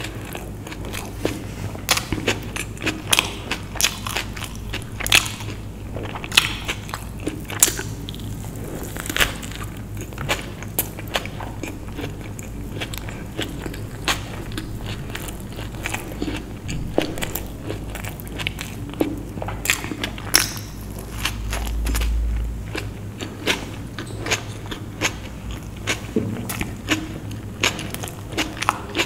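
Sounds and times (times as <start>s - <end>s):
chewing food: 0.0s - 29.0s
dull low rumble: 0.3s - 11.0s, 12.2s - 28.2s.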